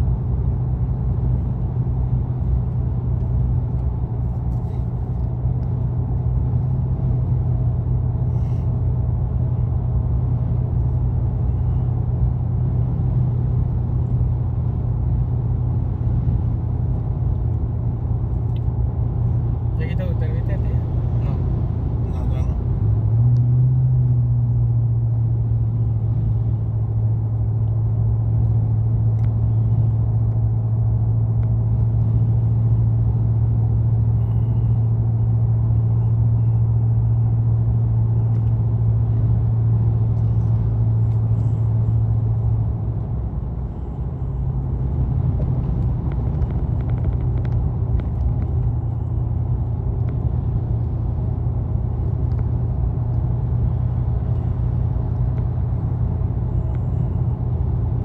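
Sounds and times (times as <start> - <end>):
car engine and tyre drone: 0.0 - 58.0.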